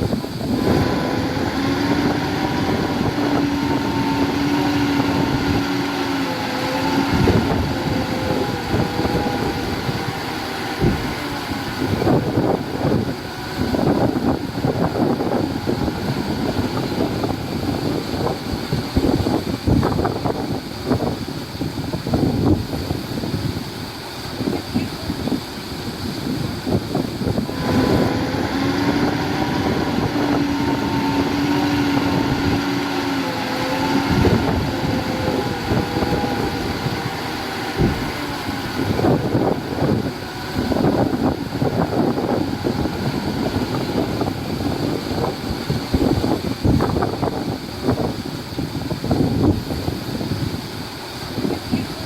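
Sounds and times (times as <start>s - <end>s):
diesel engine running: 0.0s - 52.0s
wind buffeting the microphone: 0.0s - 52.0s.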